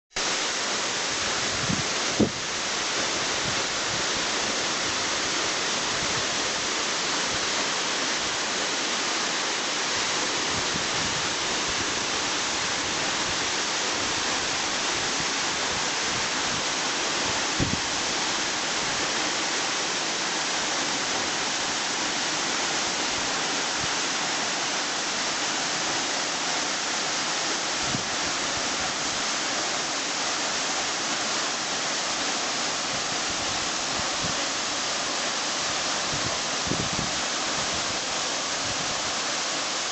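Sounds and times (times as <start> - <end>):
waterfall rushing: 0.2 - 39.9.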